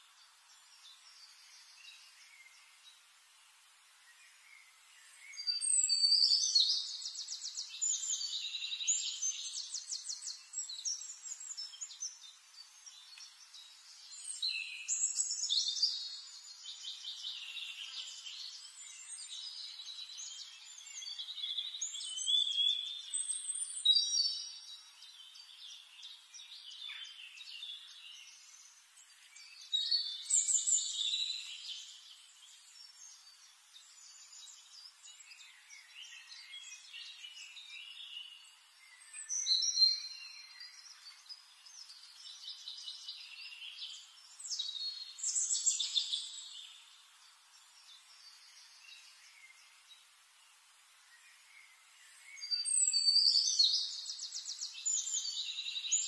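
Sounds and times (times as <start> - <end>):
songbird trilling and chirping: 4.3 - 50.0, 51.1 - 56.0.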